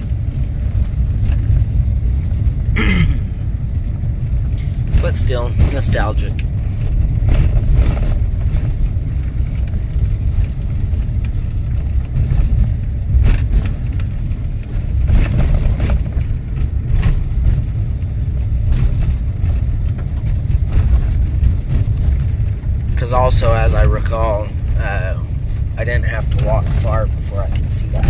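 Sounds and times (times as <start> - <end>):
vehicle driving on rough road: 0.0 - 28.0.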